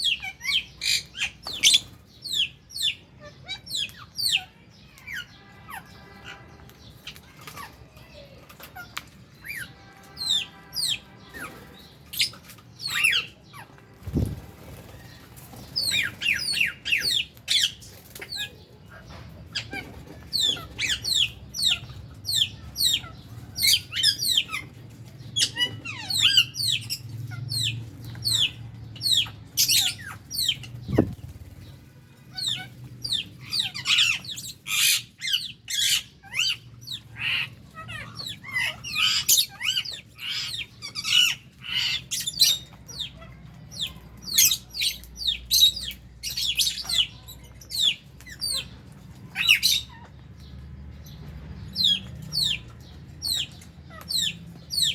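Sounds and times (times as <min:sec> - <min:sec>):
buzzy harsh bird calls: 0:00.0 - 0:54.9
lovebirds chirping: 0:00.0 - 0:54.9.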